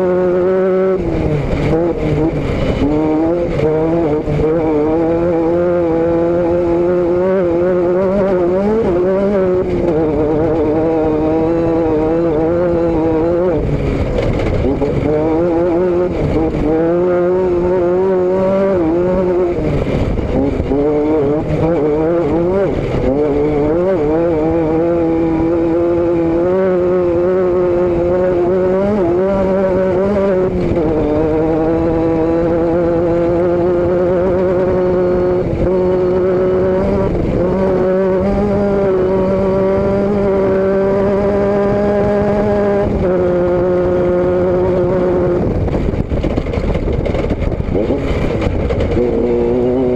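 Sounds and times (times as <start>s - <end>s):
vehicle engine and exhaust running: 0.0s - 49.9s.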